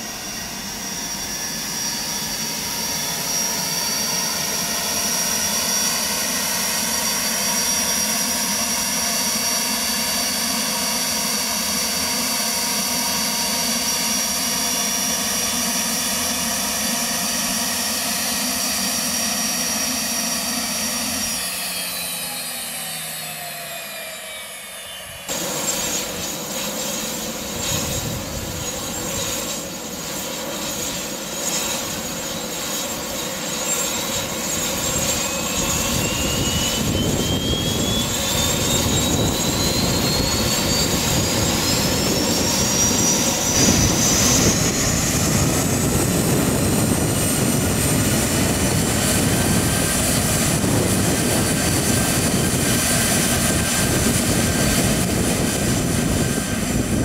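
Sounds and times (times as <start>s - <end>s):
jet engine spooling up: 0.0s - 57.0s
jet engine whine: 0.0s - 57.0s.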